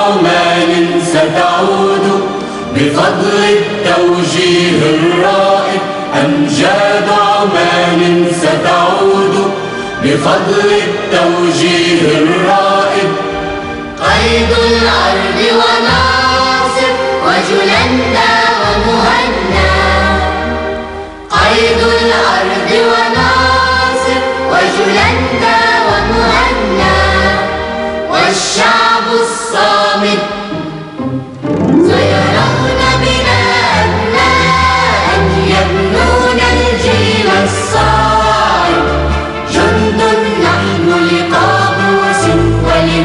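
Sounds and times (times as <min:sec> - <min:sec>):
choir singing an anthem: 0:00.0 - 0:43.0
musical accompaniment: 0:00.0 - 0:43.0.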